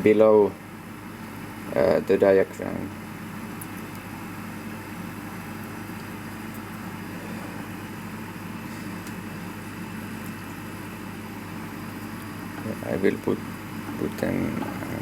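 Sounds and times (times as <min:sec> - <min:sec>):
fan humming with hiss: 0:00.0 - 0:15.0.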